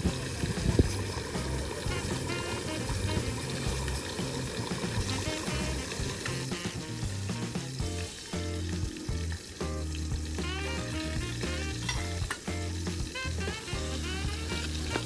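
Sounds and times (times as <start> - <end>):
background music with bass line: 0.0 - 15.0
food sizzling in a pan: 0.0 - 15.0.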